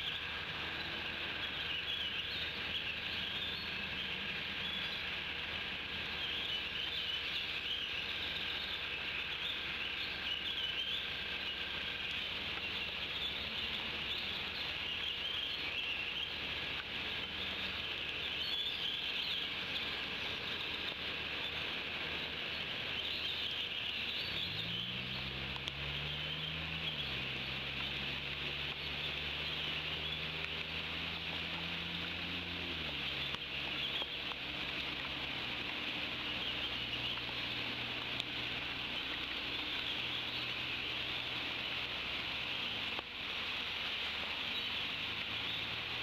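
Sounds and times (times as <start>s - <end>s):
distant songbirds chirping: 0.0s - 46.0s
low engine hum: 0.0s - 46.0s
rain hissing: 0.0s - 46.0s.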